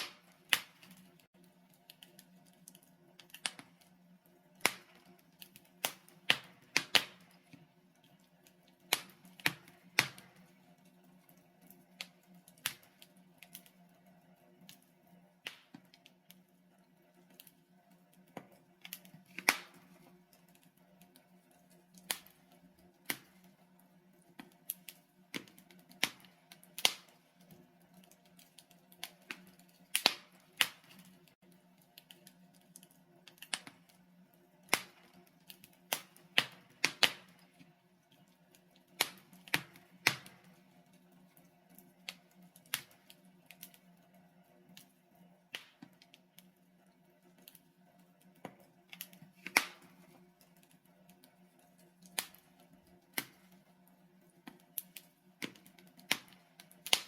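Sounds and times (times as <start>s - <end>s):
logs crackling in a fireplace: 0.0s - 57.0s.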